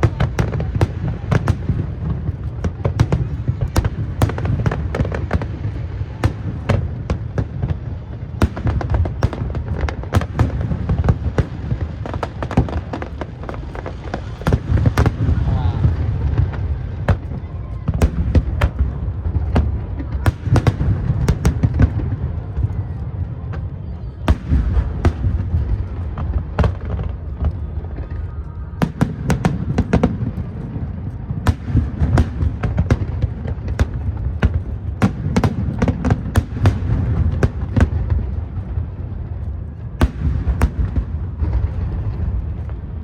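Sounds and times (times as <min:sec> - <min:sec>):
fireworks bursting: 0:00.0 - 0:43.0.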